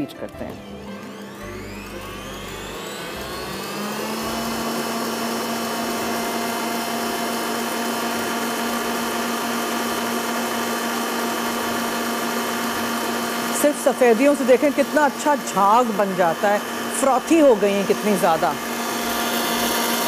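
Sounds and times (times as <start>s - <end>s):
stand mixer motor whirring: 0.0s - 20.0s.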